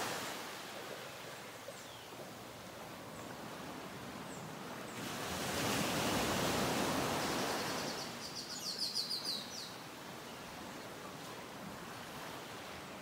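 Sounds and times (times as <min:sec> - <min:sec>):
ocean waves washing onto beach: 0:00.0 - 0:08.4, 0:09.6 - 0:13.0.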